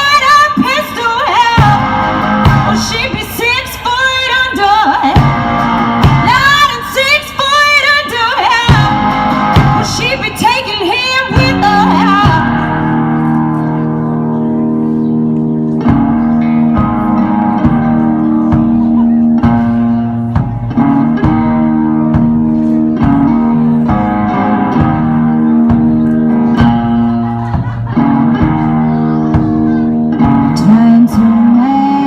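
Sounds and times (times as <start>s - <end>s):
strummed guitar chords: 0.9s - 32.0s
bass: 1.6s - 3.4s, 5.2s - 7.4s, 8.6s - 32.0s.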